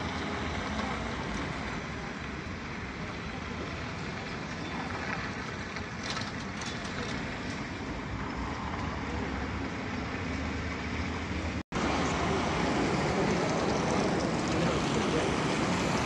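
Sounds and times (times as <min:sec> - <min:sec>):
city street traffic: 0:00.0 - 0:16.0.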